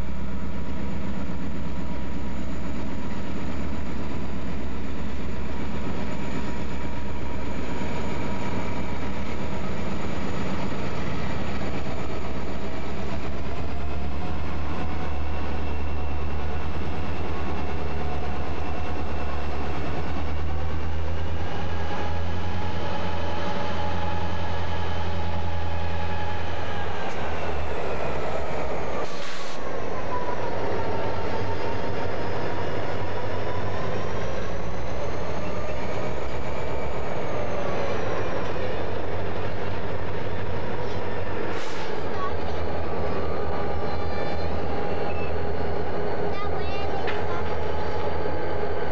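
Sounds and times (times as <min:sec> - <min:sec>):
diesel locomotive engine drone: 0:00.0 - 0:48.9
freight cars rolling rumble: 0:00.0 - 0:48.9
high engine whine: 0:00.0 - 0:48.9.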